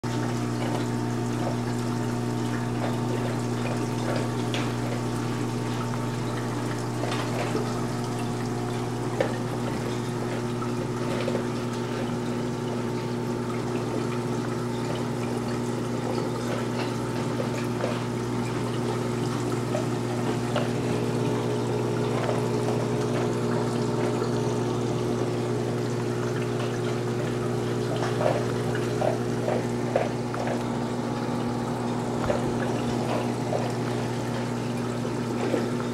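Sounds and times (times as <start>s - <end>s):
aquarium pump humming: 0.0s - 35.9s
water trickling and splashing: 0.0s - 35.9s
small drips and ticks: 0.1s - 35.9s.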